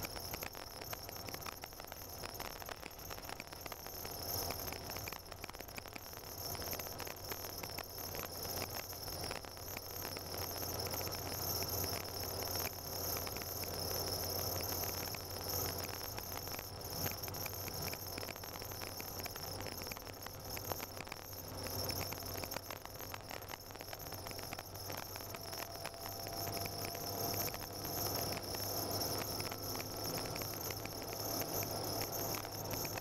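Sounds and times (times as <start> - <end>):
car engine drone: 0.0 - 33.0
tyres crackling on packed snow: 0.0 - 33.0.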